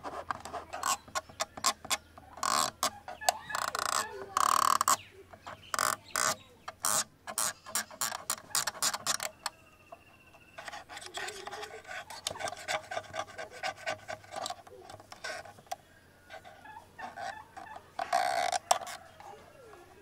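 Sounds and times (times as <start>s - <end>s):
scratching and tapping on camera: 0.0s - 20.0s.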